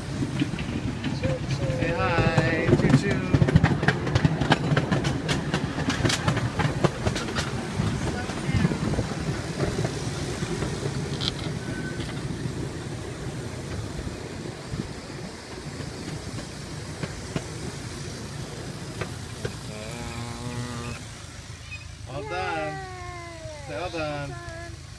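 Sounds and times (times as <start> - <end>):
miniature train cars rumbling: 0.0 - 24.9.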